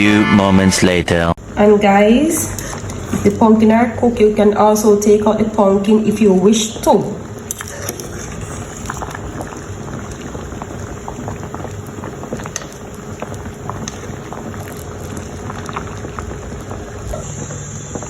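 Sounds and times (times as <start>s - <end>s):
pot boiling and bubbling: 1.4s - 18.0s.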